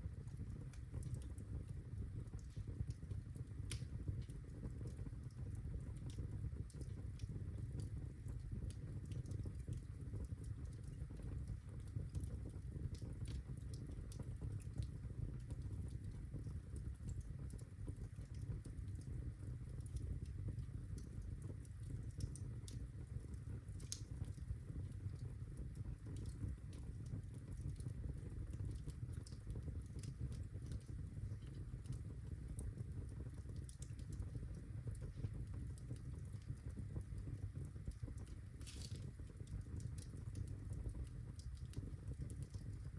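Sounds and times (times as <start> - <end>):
fire crackling and popping: 0.0 - 42.9
fire rumbling: 0.0 - 42.9.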